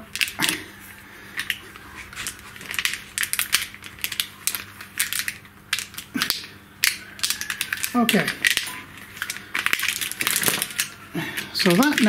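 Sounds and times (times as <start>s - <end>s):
plastic conduit crackling and clicking: 1.4s - 12.0s.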